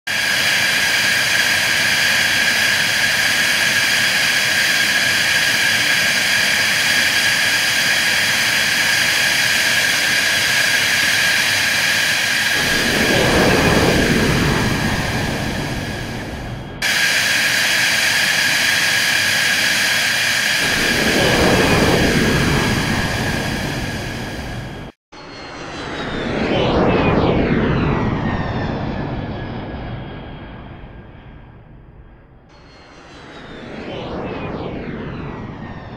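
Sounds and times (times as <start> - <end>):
jet engine whine: 0.1 - 35.9
jet passing rumble: 0.2 - 35.9.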